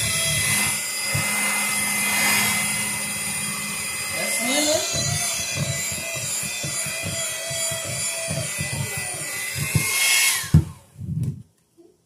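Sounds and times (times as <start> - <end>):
electric hand mixer running: 0.0 - 10.9.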